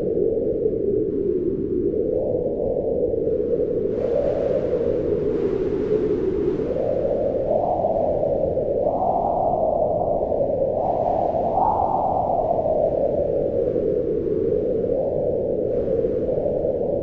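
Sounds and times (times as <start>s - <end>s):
wind howling: 0.0s - 17.0s.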